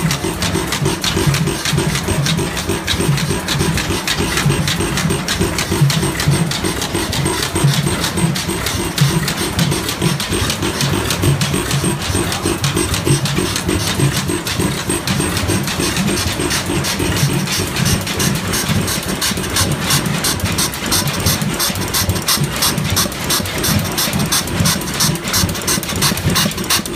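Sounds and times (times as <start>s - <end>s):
clatter of sharp ticks: 0.0s - 26.9s
stationary engine running: 0.0s - 26.9s.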